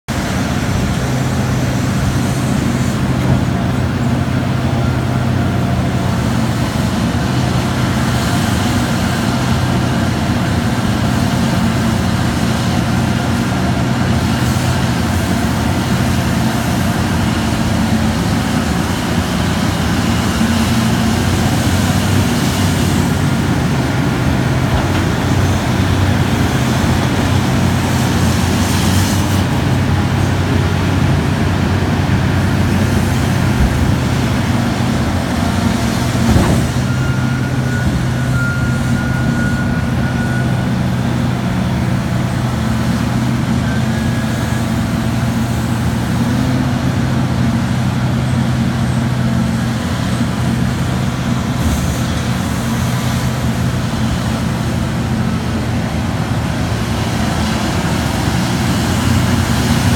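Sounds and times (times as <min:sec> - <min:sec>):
diesel engine drone: 0:00.0 - 0:59.9
rushing noise: 0:00.1 - 0:48.2.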